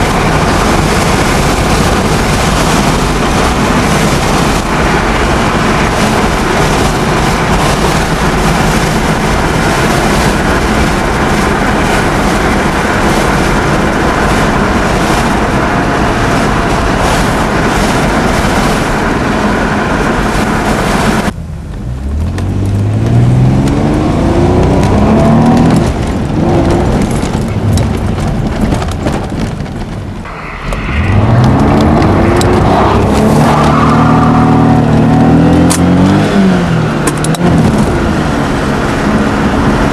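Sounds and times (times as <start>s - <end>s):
car engine accelerating hard: 0.0s - 39.9s
rush of driving at speed: 0.0s - 39.9s.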